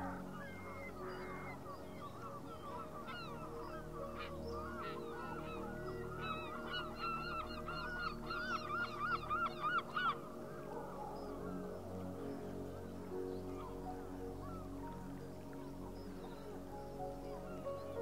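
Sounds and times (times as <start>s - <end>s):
soft sustained music: 0.0s - 18.0s.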